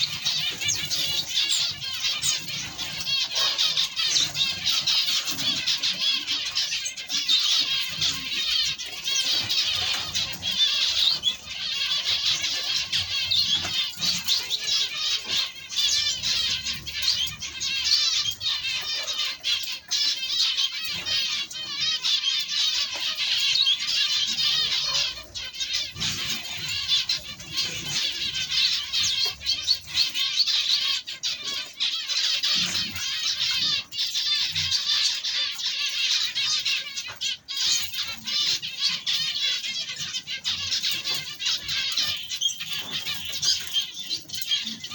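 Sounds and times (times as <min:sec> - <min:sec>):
flock of cage birds chirping: 0:00.0 - 0:44.9.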